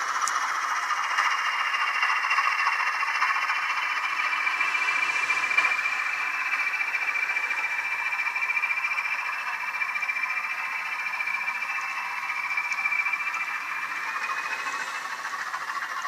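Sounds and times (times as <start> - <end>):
model locomotive diesel engine sound: 0.0 - 16.0.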